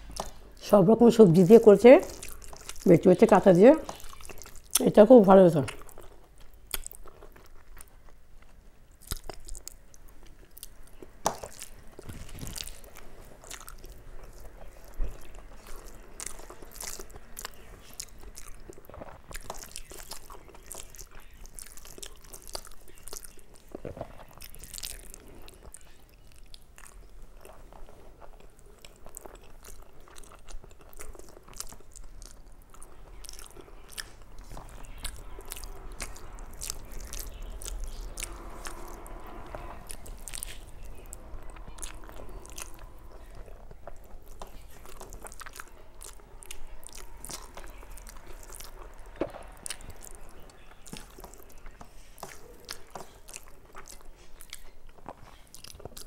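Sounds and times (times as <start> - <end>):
person chewing food: 0.0 - 0.6, 1.2 - 5.0, 5.6 - 56.0.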